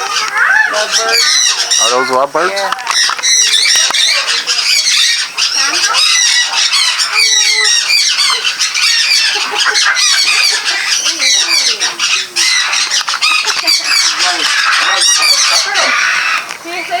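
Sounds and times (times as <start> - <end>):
lovebirds chirping and squawking: 0.0 - 17.0.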